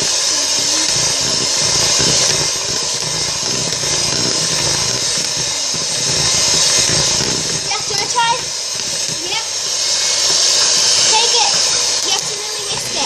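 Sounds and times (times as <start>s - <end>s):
electric hand mixer whisking: 0.0s - 13.0s.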